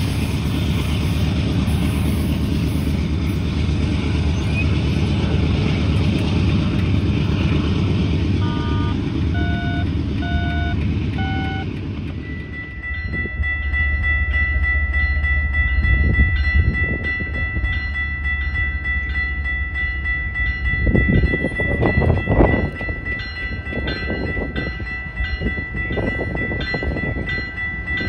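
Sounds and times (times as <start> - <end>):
diesel freight train rumbling: 0.0 - 28.0
locomotive bell ringing: 0.0 - 28.0
locomotive engine drone: 0.0 - 28.0.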